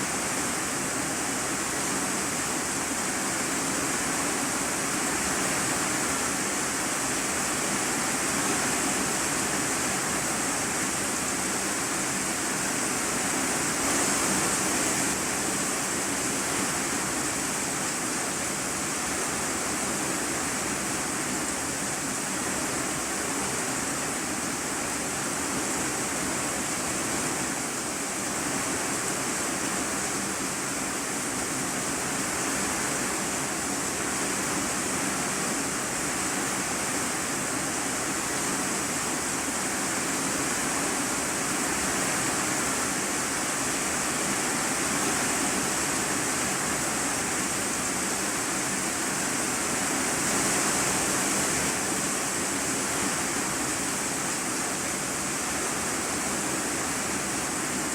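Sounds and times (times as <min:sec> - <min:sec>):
heavy rain on a metal roof: 0:00.0 - 0:57.9.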